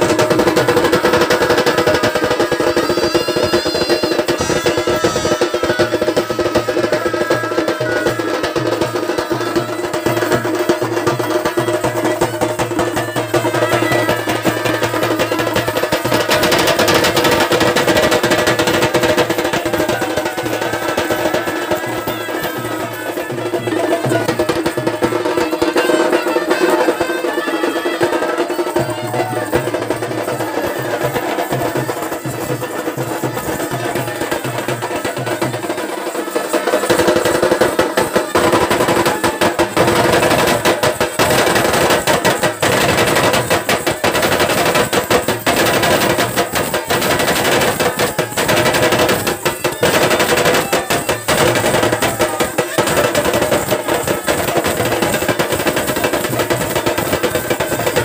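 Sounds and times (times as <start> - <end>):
drums beaten with sticks: 0.0 - 58.0.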